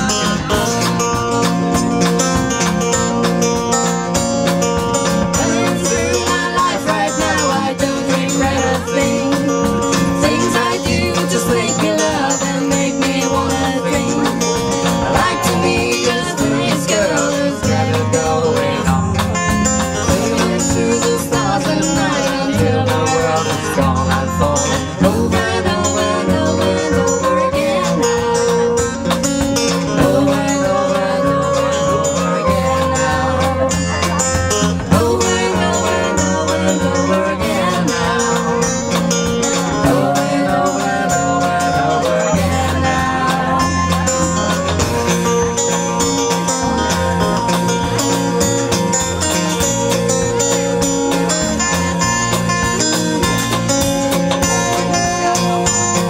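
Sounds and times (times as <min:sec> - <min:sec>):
person singing: 0:00.0 - 0:02.8, 0:04.5 - 0:53.4, 0:54.2 - 0:56.0
plucked acoustic guitar: 0:00.0 - 0:56.0.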